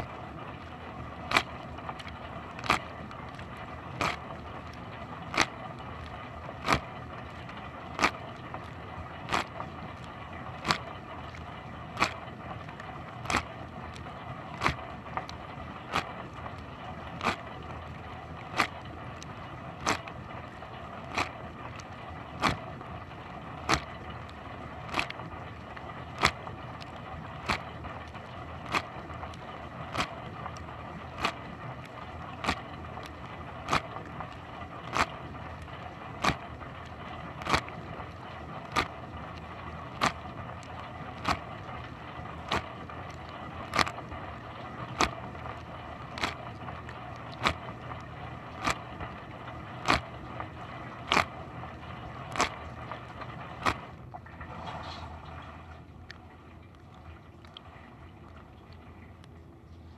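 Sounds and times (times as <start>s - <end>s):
dishwasher low hum: 0.0s - 59.9s.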